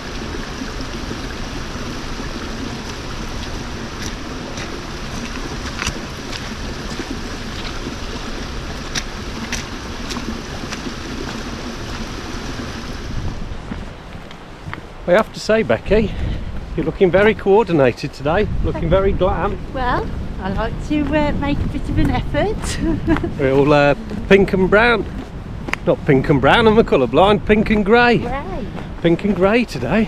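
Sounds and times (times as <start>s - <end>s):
river and waterfall rushing: 0.0s - 30.0s.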